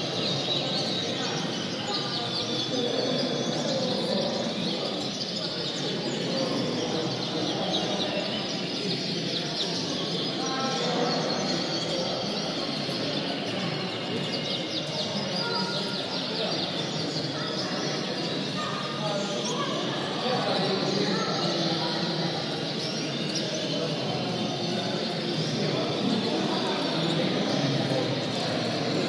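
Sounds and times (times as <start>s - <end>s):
canaries chirping and singing: 0.0s - 29.0s.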